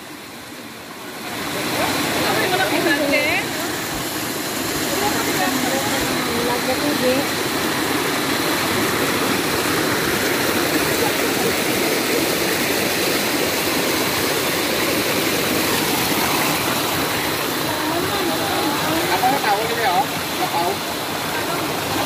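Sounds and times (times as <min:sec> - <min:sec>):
small waterfall rushing: 0:00.0 - 0:22.0
water running over rocks: 0:00.0 - 0:22.0.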